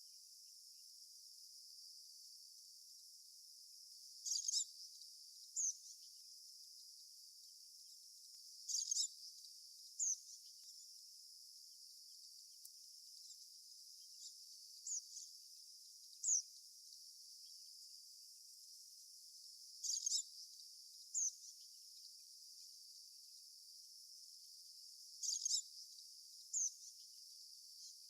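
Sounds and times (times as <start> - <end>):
insects hissing: 0.0 - 28.0.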